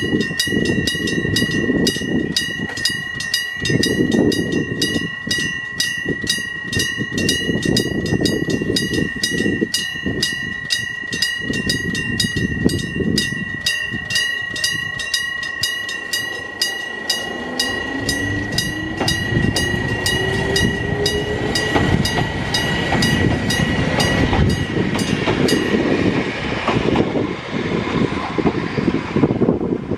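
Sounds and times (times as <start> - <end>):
level crossing alarm ringing: 0.0 - 25.9
train wheels rumbling on rail: 0.0 - 29.9
rising whine: 0.2 - 29.9.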